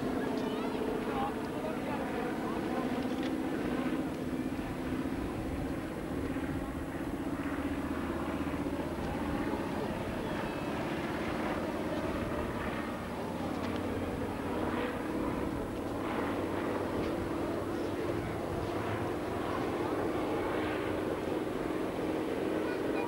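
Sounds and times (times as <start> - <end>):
propeller plane droning overhead: 0.0 - 23.0.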